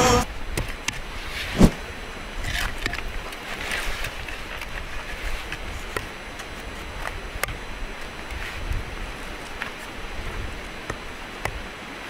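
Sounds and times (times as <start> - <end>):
steady wind: 0.0 - 12.0.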